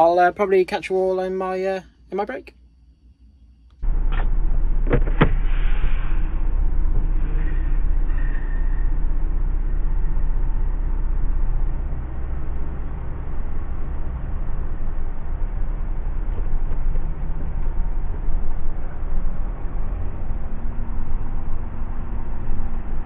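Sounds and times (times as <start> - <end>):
lorry diesel engine rumbling: 3.8 - 23.0.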